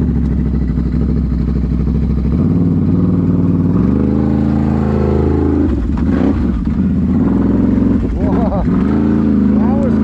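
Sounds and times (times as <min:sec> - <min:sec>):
engine revving under throttle: 0:00.0 - 0:10.0.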